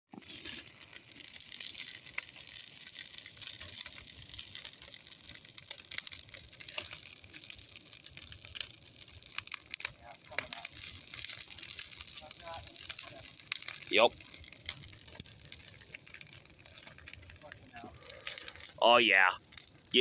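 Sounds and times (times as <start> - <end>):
wood fire crackling and popping: 0.1 - 20.0.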